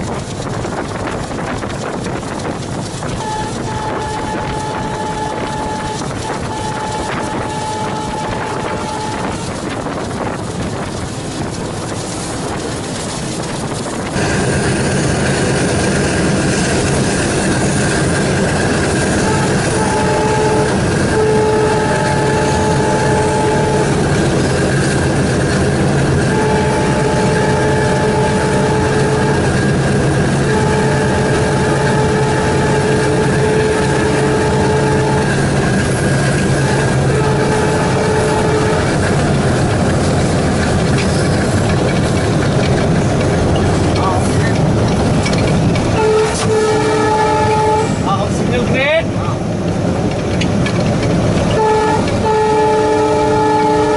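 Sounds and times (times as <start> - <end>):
diesel locomotive engine running: 0.0 - 53.9
wind-like rushing: 0.0 - 53.9.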